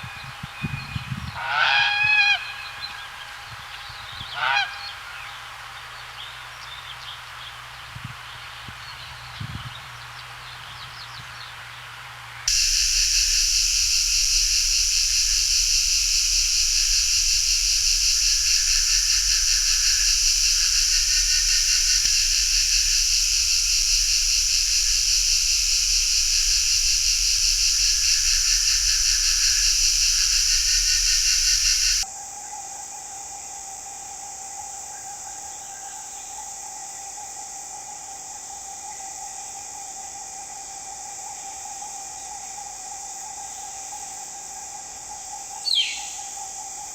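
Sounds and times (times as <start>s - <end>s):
high-pitched insect chorus: 0.0s - 11.5s, 12.5s - 46.9s.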